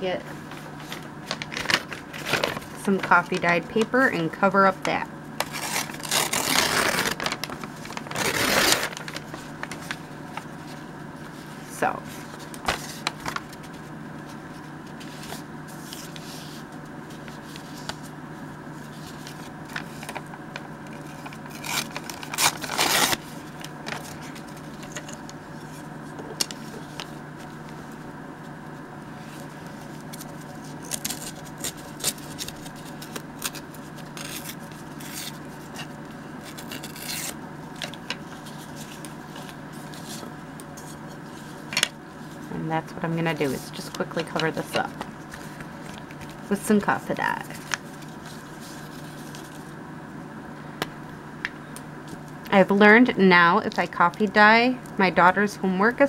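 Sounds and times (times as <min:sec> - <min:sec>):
paper rustling and scraping: 0:00.5 - 0:04.0, 0:05.4 - 0:18.1, 0:18.8 - 0:28.0, 0:29.1 - 0:42.6, 0:43.3 - 0:49.8.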